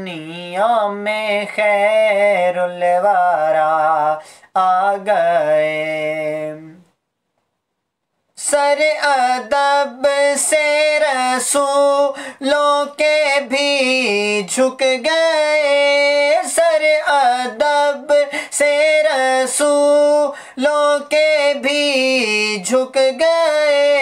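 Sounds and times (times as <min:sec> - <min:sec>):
man singing devotional verse: 0:00.0 - 0:07.0, 0:08.4 - 0:24.0.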